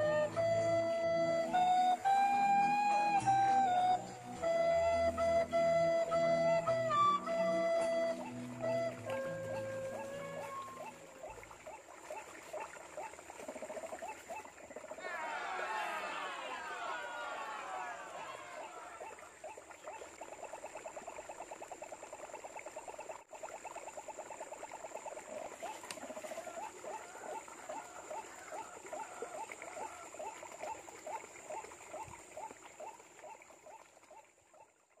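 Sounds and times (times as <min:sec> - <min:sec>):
waterhen croaking call: 0:00.0 - 0:35.0.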